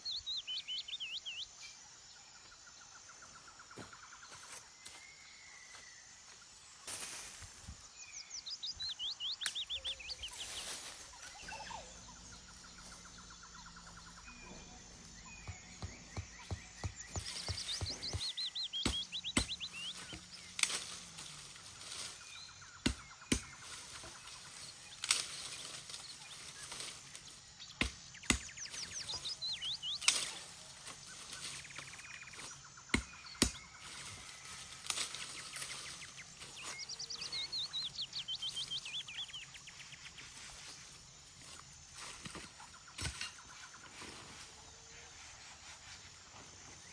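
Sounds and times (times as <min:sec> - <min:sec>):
outdoor background noise: 0:00.0 - 0:46.9
small birds singing: 0:00.0 - 0:46.9.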